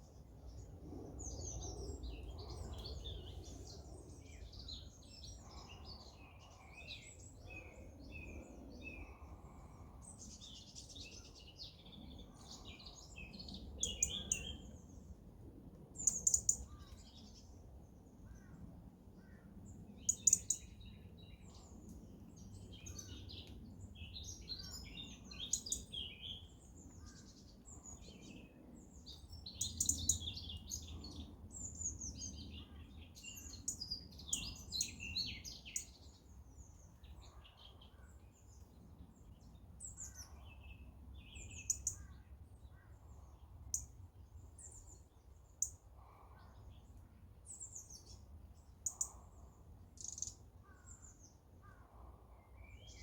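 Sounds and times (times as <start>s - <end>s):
faint low outdoor rumble: 0.0s - 53.0s
songbirds chirping: 0.0s - 53.0s.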